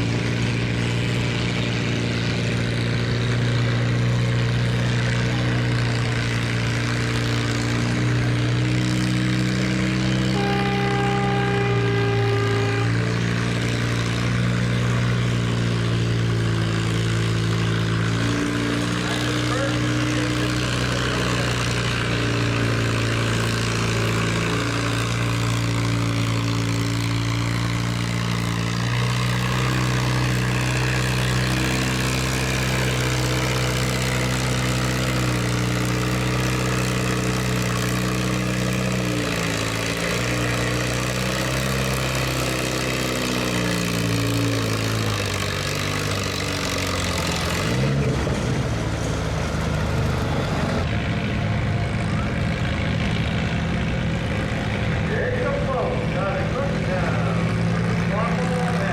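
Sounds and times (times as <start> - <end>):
tractor engine under load: 0.0 - 58.9.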